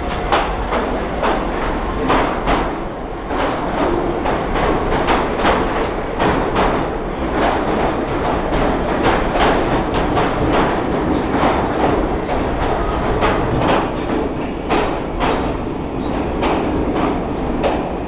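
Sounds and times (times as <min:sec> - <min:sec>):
subway cars rumbling past: 0:00.0 - 0:18.0
wheels clacking on track: 0:00.0 - 0:18.0.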